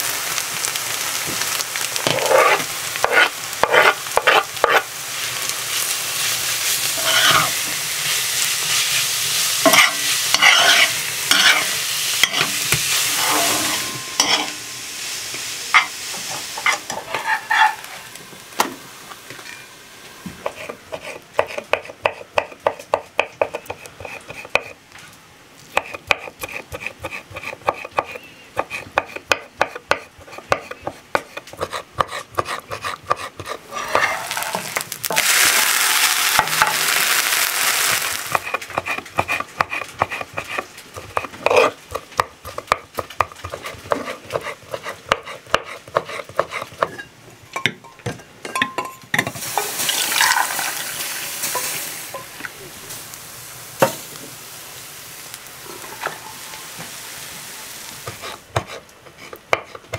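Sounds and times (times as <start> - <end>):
frying sizzle from hot pan: 0.0 - 59.9.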